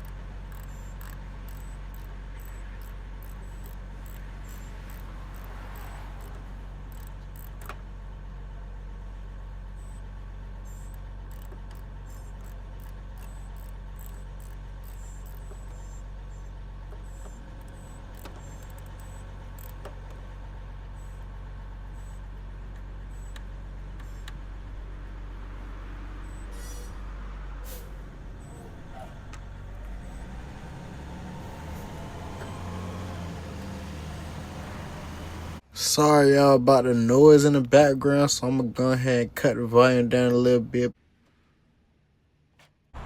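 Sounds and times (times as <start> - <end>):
vehicle engine idling: 0.0 - 41.5.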